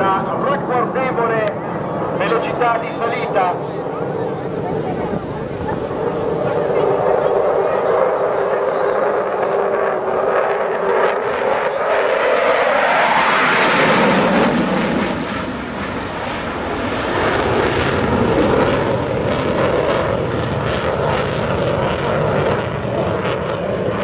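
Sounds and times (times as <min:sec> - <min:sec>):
jet flyby roar: 0:00.0 - 0:24.0.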